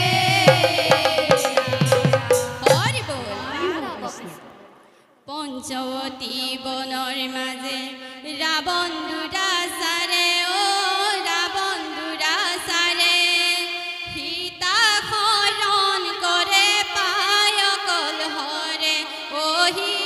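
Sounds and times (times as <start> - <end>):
women singing devotional song: 0.0 - 20.0.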